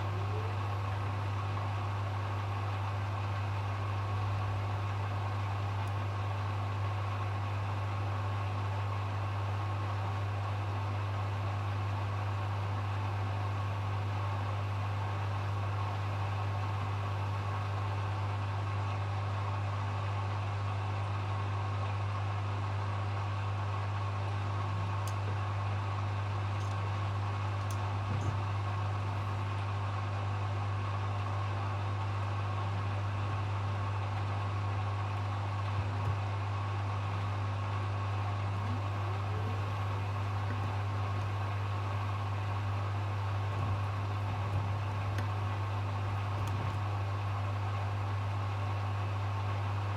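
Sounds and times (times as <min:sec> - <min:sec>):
washing machine spinning: 0:00.0 - 0:21.2, 0:23.9 - 0:49.9.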